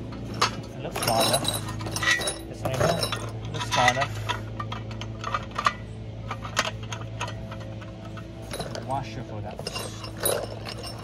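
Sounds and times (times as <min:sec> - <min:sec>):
bolts and nuts clinking: 0:00.0 - 0:11.0
low hum: 0:00.0 - 0:11.0
steel frame pieces clanking: 0:00.0 - 0:11.0.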